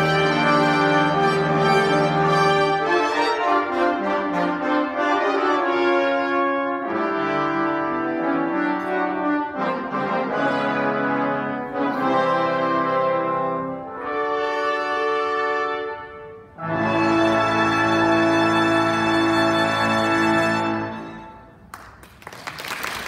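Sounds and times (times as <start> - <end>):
brass ensemble playing a fanfare: 0.0 - 21.6.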